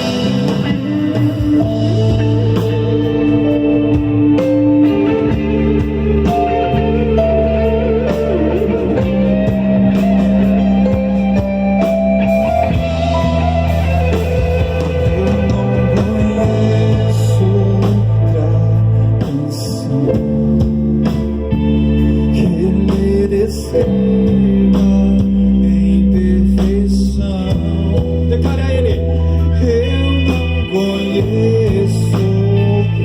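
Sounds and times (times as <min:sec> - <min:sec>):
bass and keyboard chords: 0:00.0 - 0:33.0
electric guitar lines: 0:00.0 - 0:33.0.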